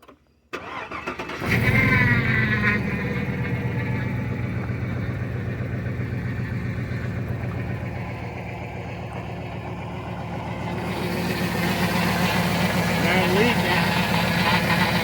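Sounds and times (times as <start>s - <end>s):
car engine idling: 0.6s - 15.0s.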